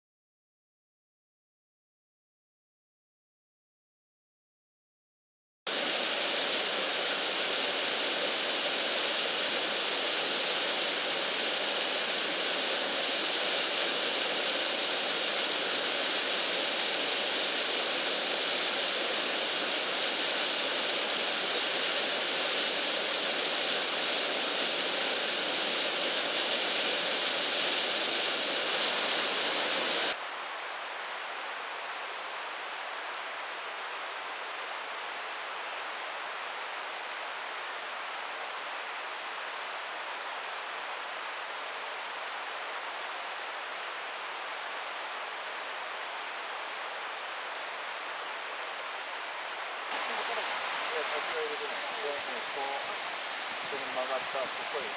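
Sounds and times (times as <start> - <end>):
waterfall roaring: 5.7 - 30.2, 33.4 - 54.9
quiet steady hiss: 5.8 - 54.9.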